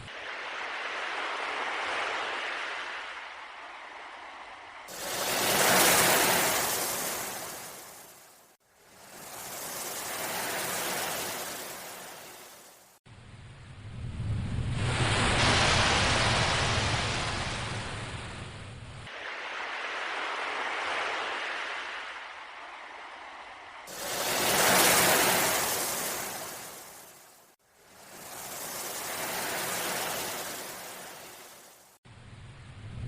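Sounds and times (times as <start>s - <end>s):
sea waves washing in: 0.0s - 13.0s, 13.9s - 32.0s.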